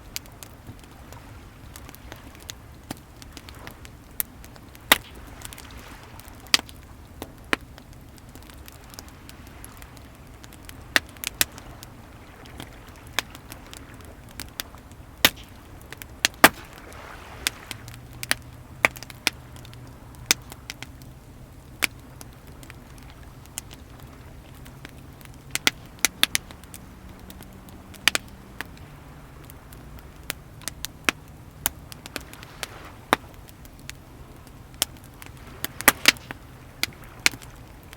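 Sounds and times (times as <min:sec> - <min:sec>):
sea waves: 0:00.0 - 0:37.9
wood fire crackling and popping: 0:00.0 - 0:37.9.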